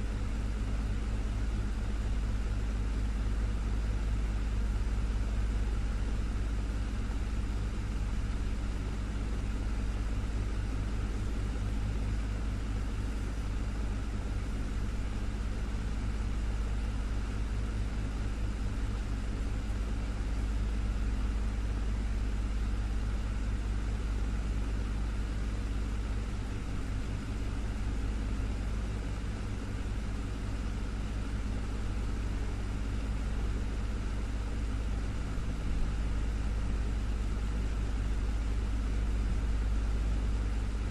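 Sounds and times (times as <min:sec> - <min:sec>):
desktop fan running: 0:00.0 - 0:40.9.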